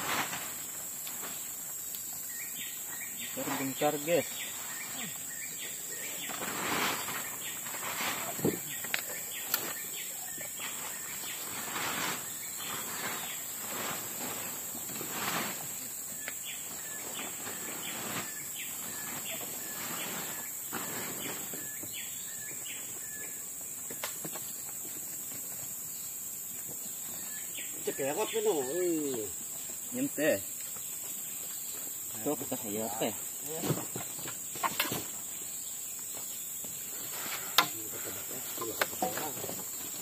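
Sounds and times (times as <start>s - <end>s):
insects buzzing: 0.0s - 40.0s
rustling and scraping: 0.0s - 40.0s.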